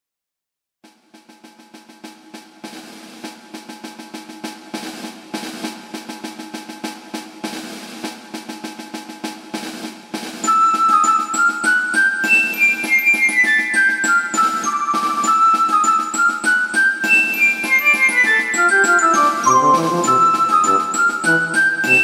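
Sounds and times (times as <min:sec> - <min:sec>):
snare drum roll: 0:01.2 - 0:22.0.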